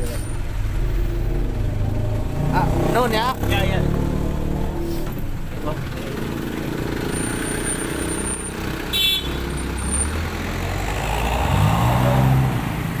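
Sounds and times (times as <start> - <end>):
diesel bus engine revving: 0.0 - 13.0.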